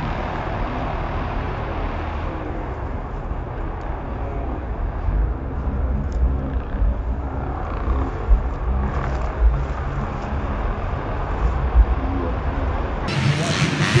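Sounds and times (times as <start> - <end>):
heavy uneven low rumble: 0.0 - 14.0
motorcycle engines running: 0.0 - 14.0.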